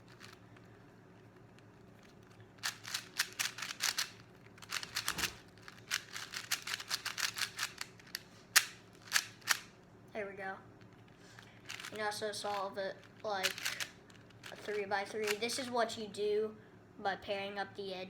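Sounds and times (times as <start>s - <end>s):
puzzle cube plastic clicks: 0.0s - 9.7s, 10.9s - 15.7s.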